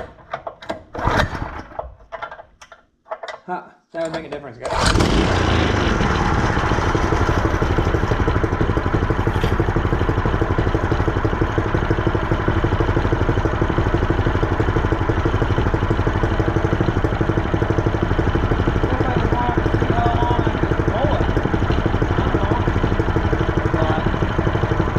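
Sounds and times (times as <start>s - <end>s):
small engine idling: 4.7s - 24.9s.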